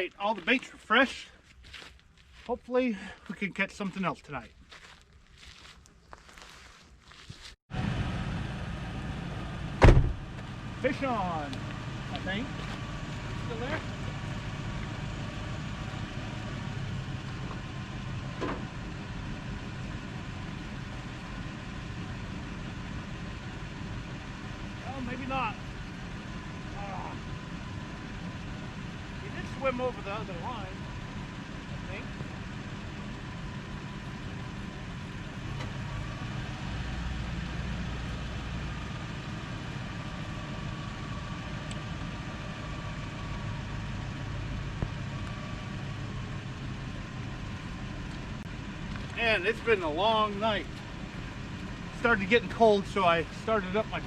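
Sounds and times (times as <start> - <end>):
pickup truck engine idling: 7.8 - 54.0.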